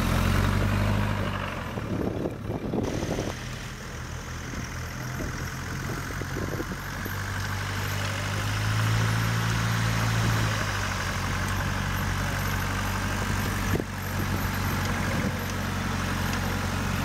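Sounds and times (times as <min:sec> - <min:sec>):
truck engine at low revs: 0:00.0 - 0:17.0.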